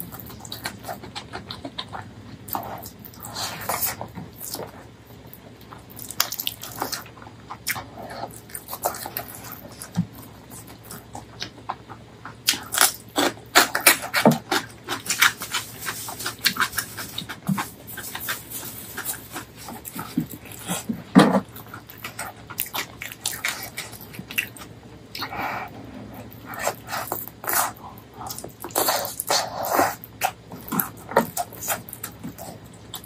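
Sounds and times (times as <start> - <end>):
chewing and lip-smacking: 0.0 - 33.0.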